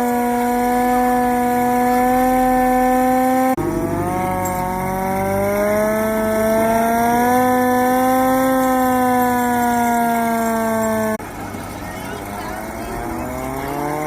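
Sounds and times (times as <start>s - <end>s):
hand-cranked siren wailing: 0.0s - 14.0s.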